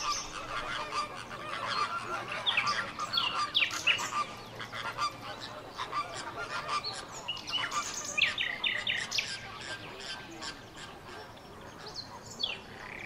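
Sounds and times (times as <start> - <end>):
flamingos honking: 0.0 - 13.0.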